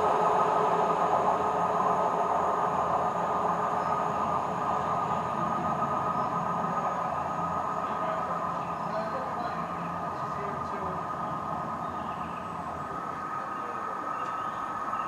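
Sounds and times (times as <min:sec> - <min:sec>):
diesel train engine drone: 0:00.0 - 0:15.0
rail noise: 0:00.0 - 0:15.0.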